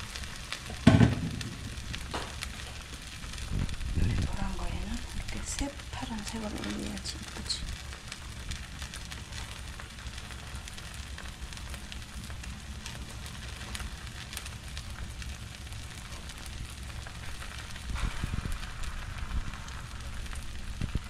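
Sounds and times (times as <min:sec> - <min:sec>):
pancake sizzling in oil: 0:00.0 - 0:21.0.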